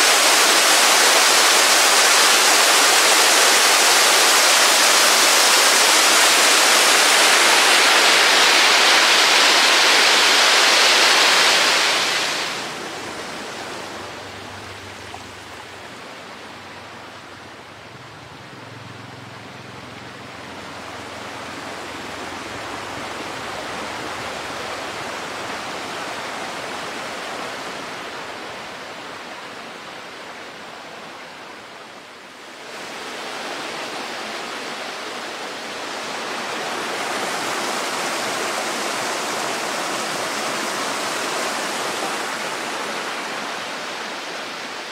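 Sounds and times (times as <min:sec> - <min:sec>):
rushing mountain stream: 0:00.0 - 0:44.9.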